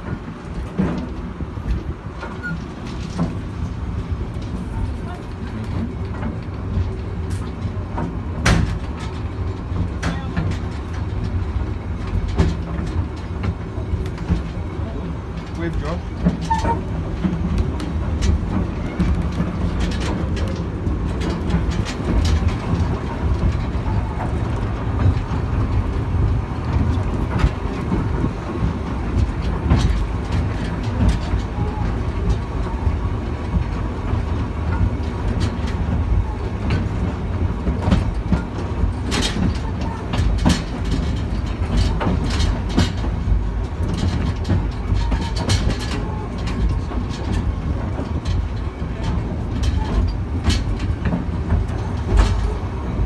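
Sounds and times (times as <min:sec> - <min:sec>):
train rumbling on track: 0:00.0 - 0:53.0
wheels clicking and clanking: 0:00.0 - 0:53.0.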